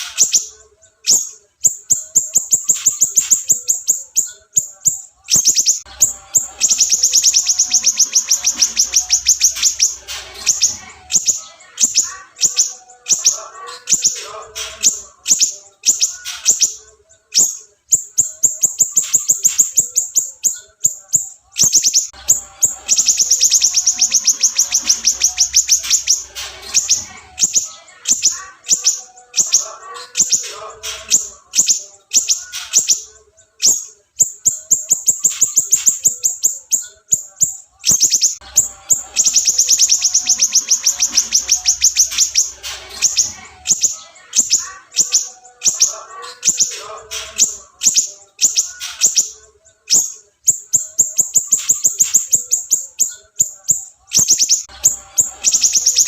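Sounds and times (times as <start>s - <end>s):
songbird chirps and trills: 0.0s - 56.0s.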